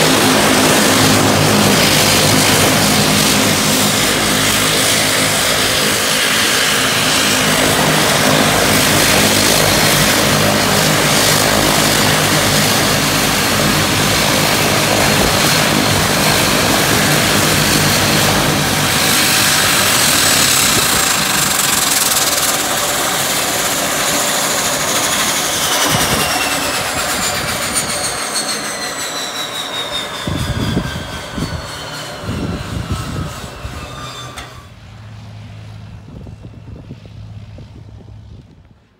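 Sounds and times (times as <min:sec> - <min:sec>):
turbine whine winding down: 0:00.0 - 0:38.8
turboprop engines idling: 0:00.0 - 0:38.8.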